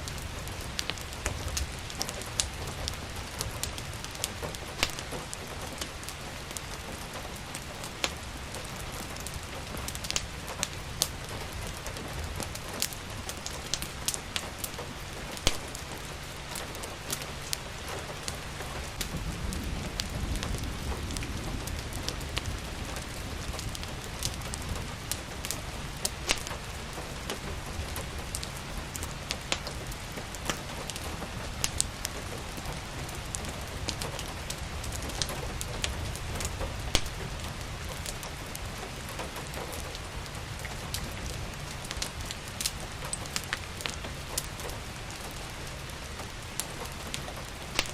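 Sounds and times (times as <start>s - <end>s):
steady rain: 0.0s - 47.9s
wood fire crackling and popping: 0.0s - 47.9s.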